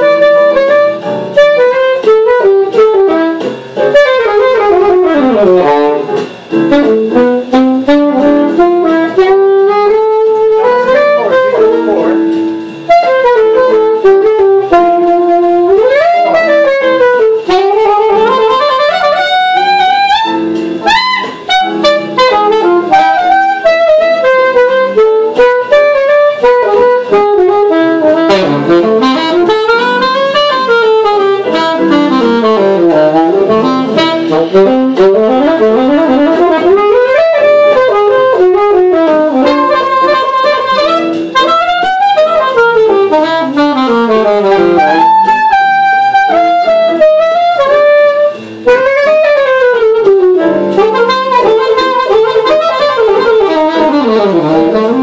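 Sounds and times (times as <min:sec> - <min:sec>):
alto saxophone playing jazz: 0:00.0 - 0:55.0.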